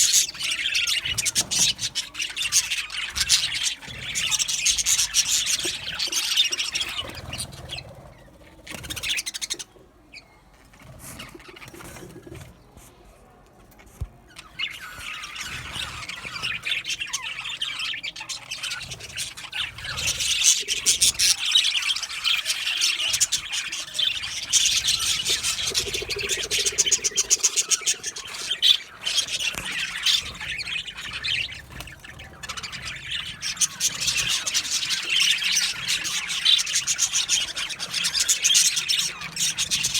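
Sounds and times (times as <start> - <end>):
budgerigars chattering and chirping: 0.0 - 10.3, 14.4 - 39.9.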